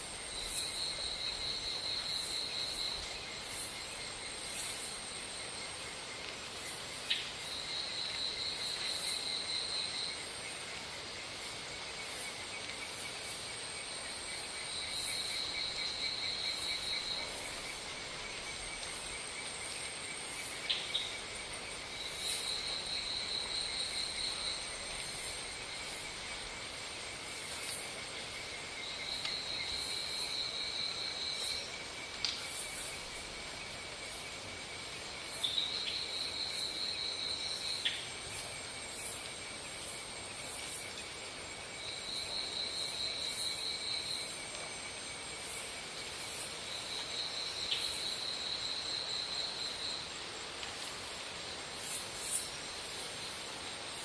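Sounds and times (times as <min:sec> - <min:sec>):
insects pulsing trill: 0:00.0 - 0:54.0.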